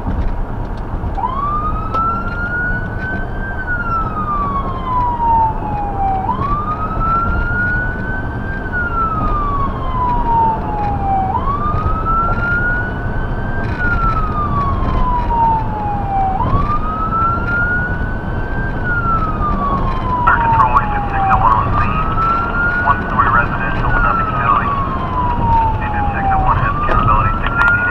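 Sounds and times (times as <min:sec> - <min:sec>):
road and engine noise: 0:00.0 - 0:27.9
siren wailing: 0:01.2 - 0:27.9.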